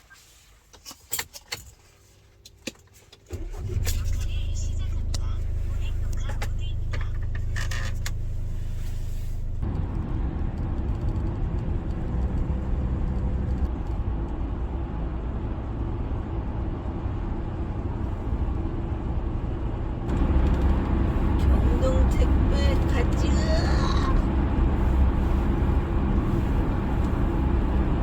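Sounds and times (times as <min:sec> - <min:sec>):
van engine rumble: 0:00.0 - 0:28.0
road noise: 0:02.3 - 0:28.0.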